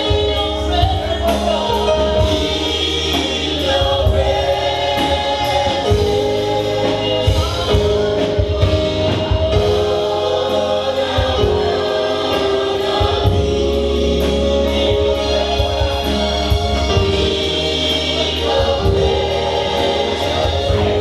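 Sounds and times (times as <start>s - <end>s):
band playing with beat: 0.0s - 21.0s
gospel choir singing: 0.0s - 21.0s.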